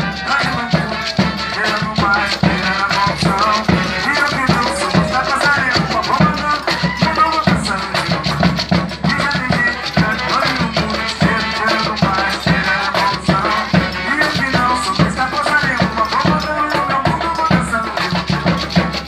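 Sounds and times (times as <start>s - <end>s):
drums beating: 0.0s - 19.0s
shaker: 0.0s - 19.0s
voices singing: 0.0s - 19.0s.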